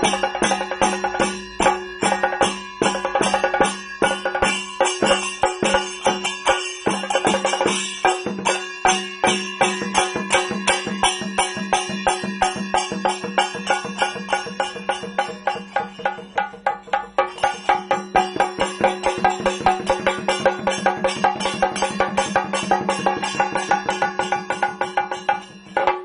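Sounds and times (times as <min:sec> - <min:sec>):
drums beaten in fast rhythm: 0:00.0 - 0:26.0
steady ringing tone: 0:00.0 - 0:26.0.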